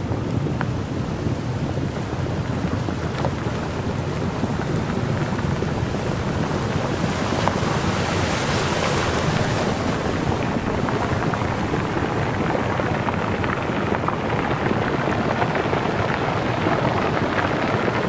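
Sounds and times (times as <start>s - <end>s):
floodwater rushing: 0.9s - 18.0s.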